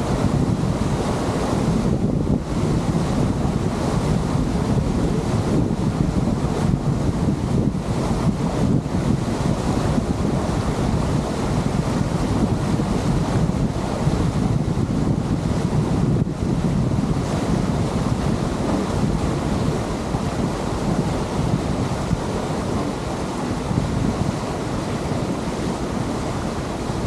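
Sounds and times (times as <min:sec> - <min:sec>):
water rushing along boat hull: 0:00.0 - 0:27.0
wind buffeting microphone: 0:00.0 - 0:27.0.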